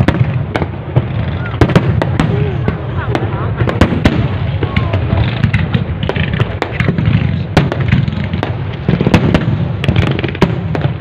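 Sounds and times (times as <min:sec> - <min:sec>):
fireworks cracks and pops: 0:00.0 - 0:11.0
rumble of bursting shells: 0:00.0 - 0:11.0.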